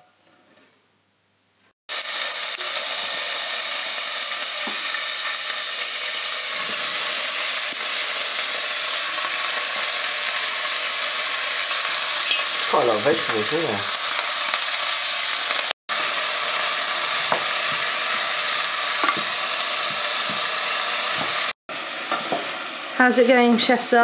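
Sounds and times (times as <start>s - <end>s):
vegetables sizzling in hot oil: 1.9s - 24.0s.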